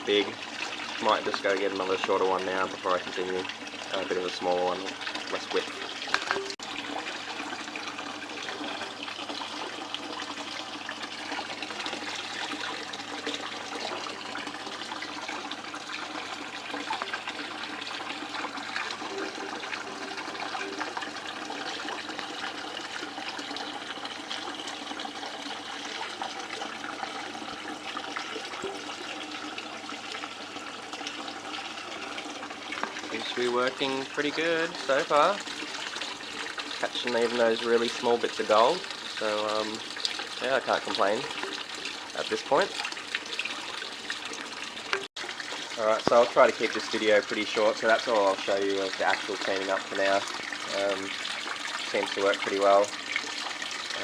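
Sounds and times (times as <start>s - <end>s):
water trickling over a table: 0.0s - 54.0s.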